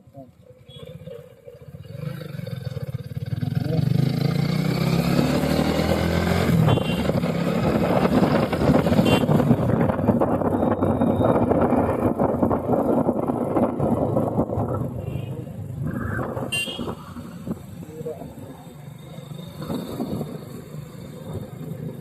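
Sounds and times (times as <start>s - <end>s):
motorcycle engine accelerating: 0.7s - 22.0s.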